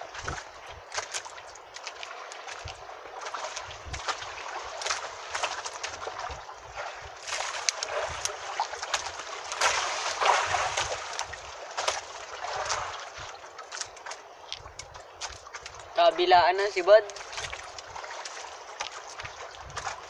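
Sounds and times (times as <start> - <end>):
water splashing against boat hull: 0.0 - 20.0.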